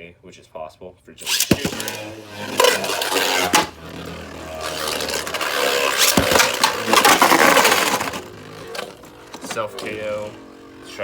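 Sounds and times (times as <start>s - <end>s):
spinning tops clashing: 1.2s - 11.0s
spinning tops scraping plastic: 1.2s - 11.0s.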